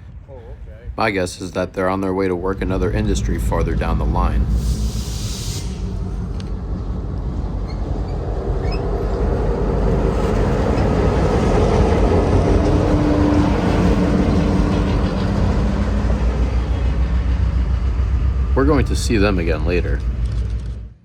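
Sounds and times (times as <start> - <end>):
diesel locomotive running: 0.0 - 21.0.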